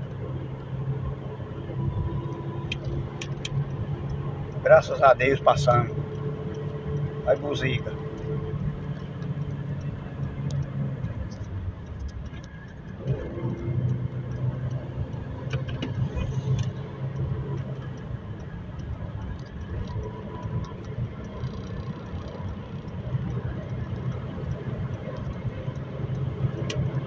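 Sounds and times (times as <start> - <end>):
car engine running: 0.0 - 27.0
road noise: 0.0 - 27.0.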